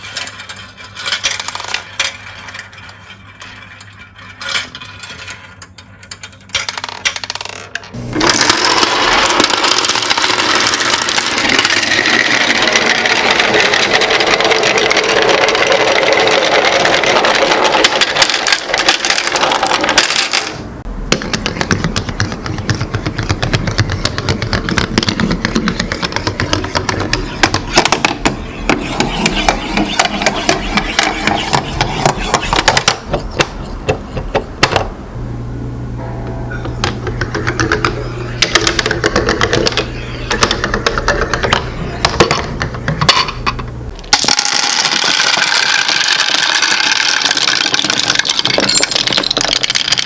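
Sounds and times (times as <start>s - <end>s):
glass marbles rolling and clicking: 0.0s - 20.6s, 23.1s - 33.5s, 36.6s - 42.4s, 43.0s - 50.0s.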